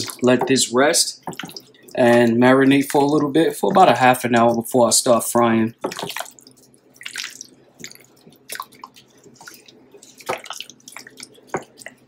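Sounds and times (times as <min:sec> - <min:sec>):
wet squelches of mixing chicken: 0:00.0 - 0:12.0.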